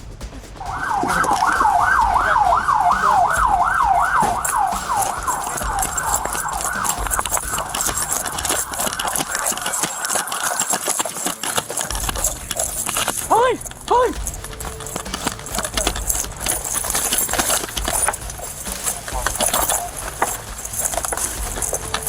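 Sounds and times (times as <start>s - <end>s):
knocks and rustles: 0.0s - 22.0s
police siren yelping: 0.7s - 22.0s.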